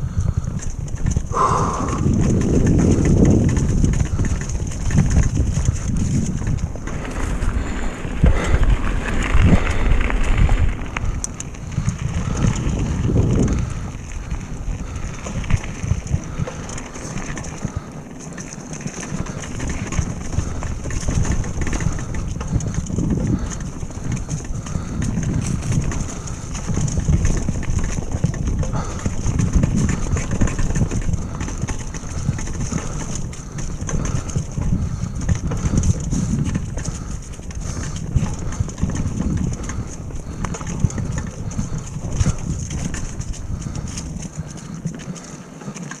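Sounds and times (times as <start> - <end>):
mountain bike rumbling over dirt trail: 0.0 - 46.0.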